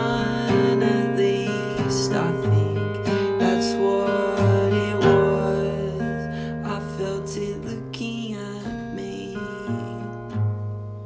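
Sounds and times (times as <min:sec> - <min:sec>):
acoustic guitar picked chords: 0:00.0 - 0:11.0.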